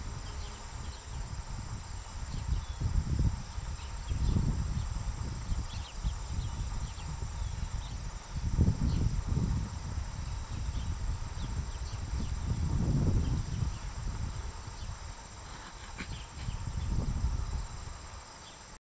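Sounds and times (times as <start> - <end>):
wind buffeting microphone: 0.0 - 18.1
insects droning: 0.0 - 18.8.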